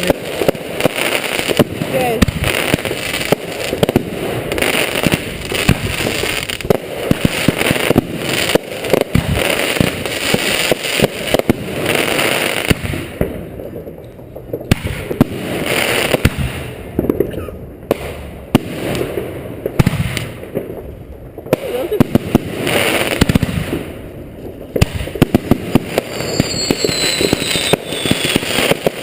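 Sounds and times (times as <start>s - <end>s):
firework bangs and pops: 0.0s - 29.0s
firework crackling: 0.0s - 29.0s.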